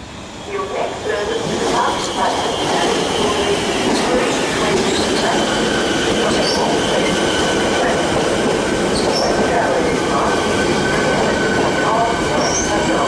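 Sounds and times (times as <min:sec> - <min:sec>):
high whine of electric train: 0:00.0 - 0:13.0
train wheels rumbling on rail: 0:00.0 - 0:13.0.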